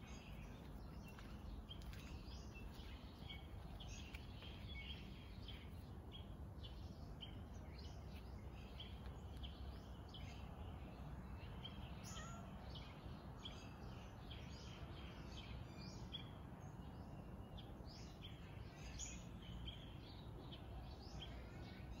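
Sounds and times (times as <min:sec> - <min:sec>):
birds chirping faintly: 0:00.0 - 0:22.0.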